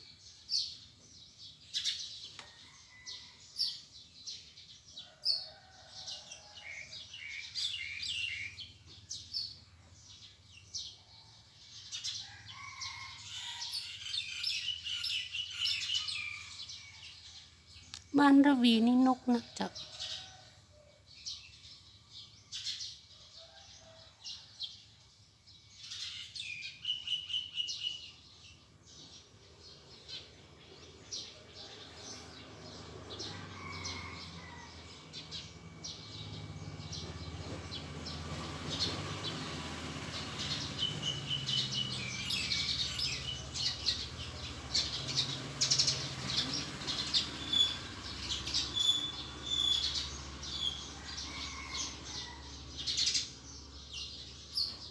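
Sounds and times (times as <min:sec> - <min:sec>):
birds chirping and calling: 0:00.1 - 0:20.5, 0:25.8 - 0:54.9.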